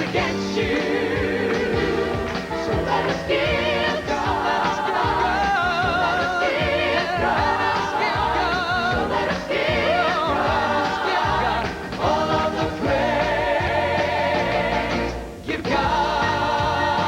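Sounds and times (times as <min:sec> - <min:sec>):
gospel singing with vibrato: 0:00.0 - 0:17.0
instrumental backing: 0:00.0 - 0:17.0
steady bass line: 0:00.0 - 0:17.0.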